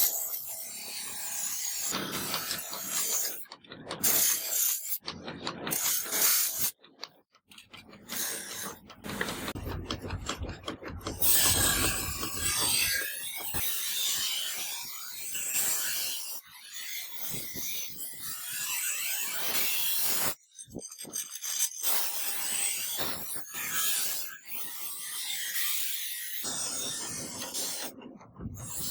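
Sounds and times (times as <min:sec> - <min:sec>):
tool rasping on knife: 0:00.0 - 0:28.9.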